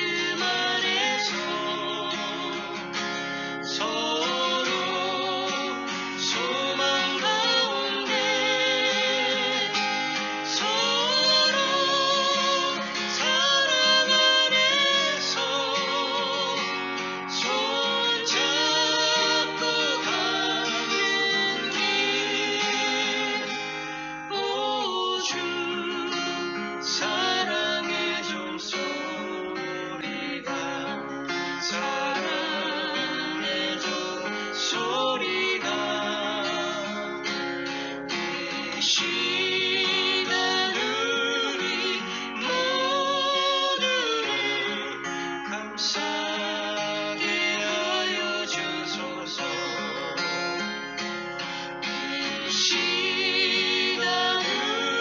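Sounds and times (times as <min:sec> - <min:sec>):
woman singing with vibrato: 0:00.0 - 0:50.8, 0:51.8 - 0:55.0
acoustic guitar: 0:00.0 - 0:55.0.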